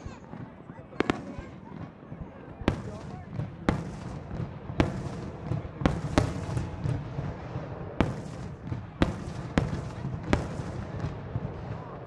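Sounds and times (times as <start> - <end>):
distant fireworks booms rumbling: 0.0 - 12.0
fireworks bangs: 0.0 - 12.0.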